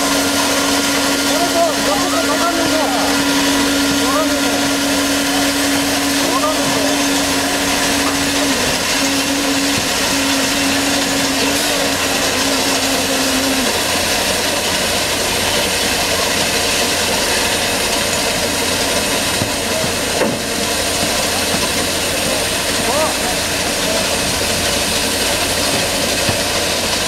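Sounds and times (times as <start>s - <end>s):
concrete finishing machine running: 0.0s - 27.0s.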